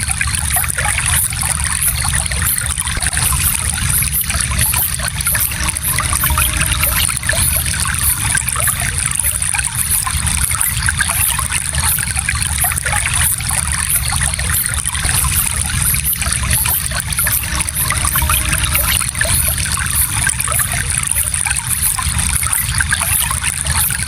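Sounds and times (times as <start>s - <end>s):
stream babbling over stones: 0.0s - 24.0s.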